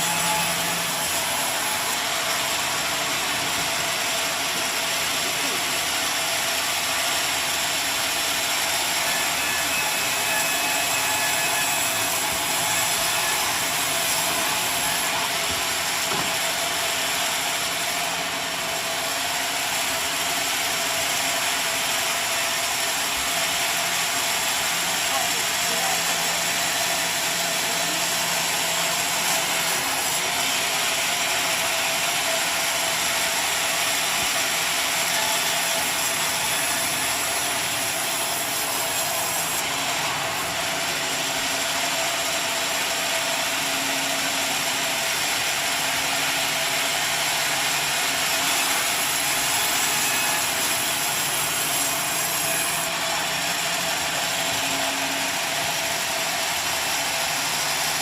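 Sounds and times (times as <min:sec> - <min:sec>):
sawmill running: 0:00.0 - 0:58.0.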